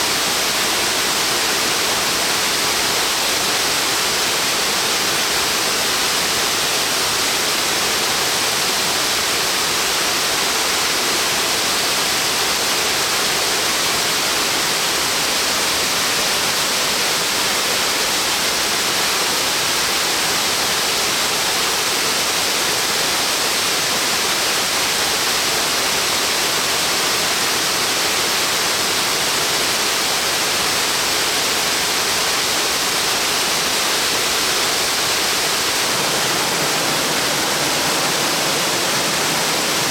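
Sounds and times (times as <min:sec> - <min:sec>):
waterfall hissing: 0:00.0 - 0:39.9.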